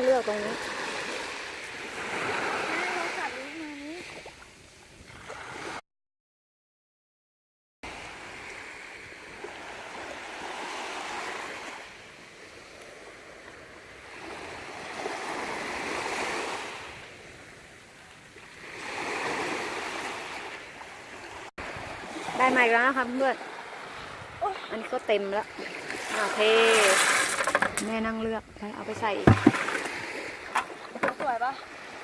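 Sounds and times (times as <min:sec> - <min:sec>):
sea waves washing on shore: 0:00.0 - 0:05.8, 0:07.9 - 0:32.0.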